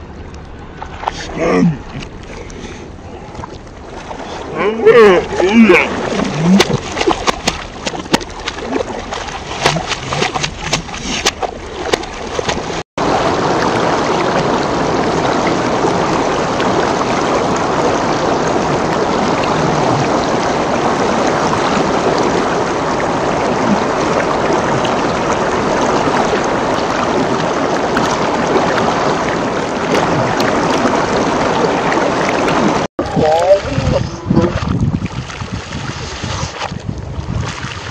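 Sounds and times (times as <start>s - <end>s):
children splashing in water: 3.8s - 35.8s
fast-flowing river water rushing: 3.9s - 34.5s.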